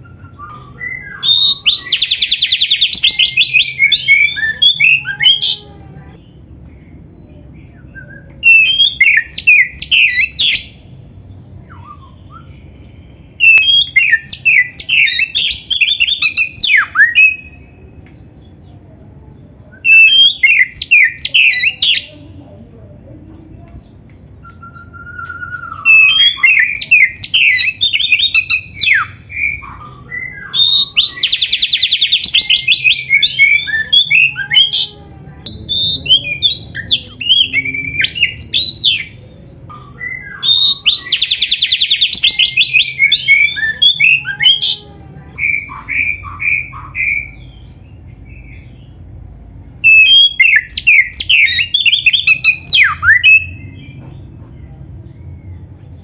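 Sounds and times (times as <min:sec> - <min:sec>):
bird singing whistled phrases: 0:00.0 - 0:06.0, 0:07.7 - 0:10.8, 0:11.6 - 0:17.7, 0:19.6 - 0:22.1, 0:23.4 - 0:44.8, 0:45.4 - 0:49.0, 0:49.8 - 0:54.0.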